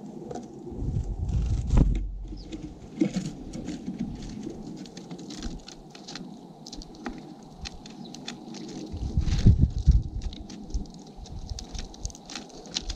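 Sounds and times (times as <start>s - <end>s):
birds pecking at seeds: 2.0s - 12.9s.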